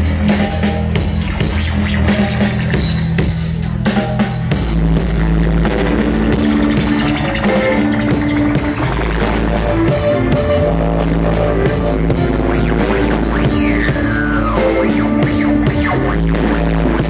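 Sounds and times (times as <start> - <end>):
held bass notes: 0.0 - 17.0
rock band playing: 0.0 - 17.0.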